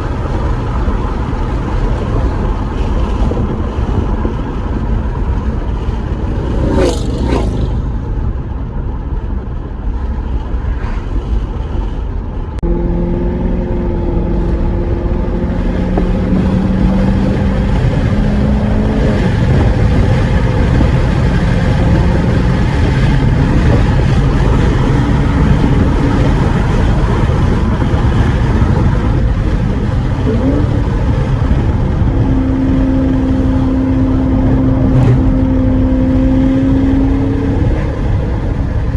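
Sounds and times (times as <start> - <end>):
car engine accelerating: 0.0 - 38.9
wind buffeting microphone: 0.0 - 38.9.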